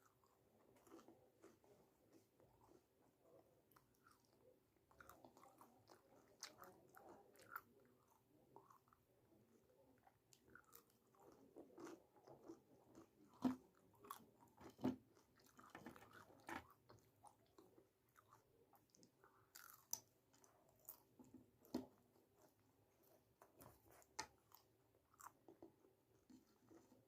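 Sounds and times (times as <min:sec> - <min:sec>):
person chewing and smacking: 0:00.0 - 0:26.9.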